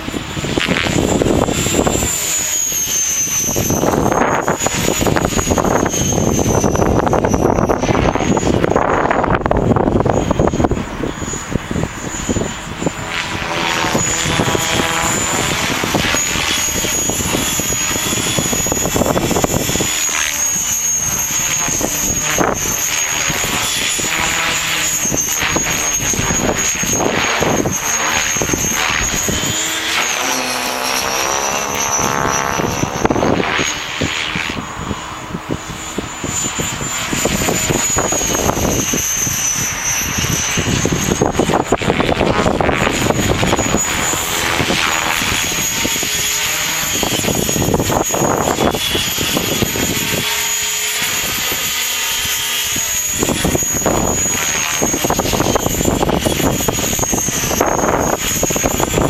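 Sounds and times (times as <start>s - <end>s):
rc helicopter motor whine: 0.0s - 59.0s
rotor blades swishing: 0.0s - 59.0s
wind rumble on microphone: 0.0s - 59.0s.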